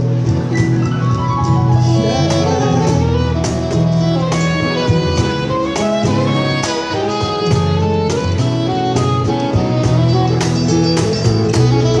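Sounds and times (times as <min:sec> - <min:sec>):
cajon beat: 0:00.0 - 0:12.0
keyboard guitar and bass chords: 0:00.0 - 0:12.0
saxophone melody: 0:01.6 - 0:12.0.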